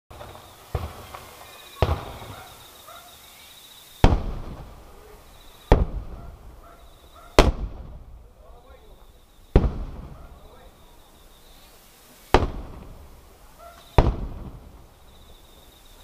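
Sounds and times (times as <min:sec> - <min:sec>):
firework shells booming: 0:00.1 - 0:03.2, 0:04.0 - 0:11.7, 0:12.3 - 0:15.8.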